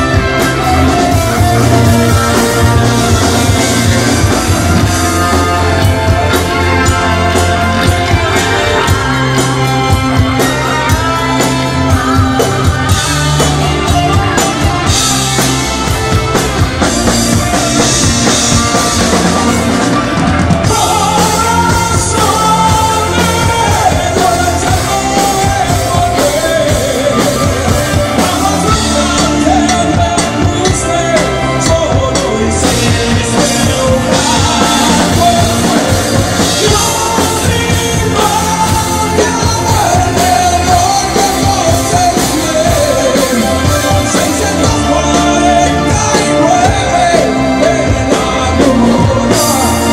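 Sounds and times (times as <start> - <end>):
man singing: 0.0 - 49.9
rock band playing: 0.0 - 49.9.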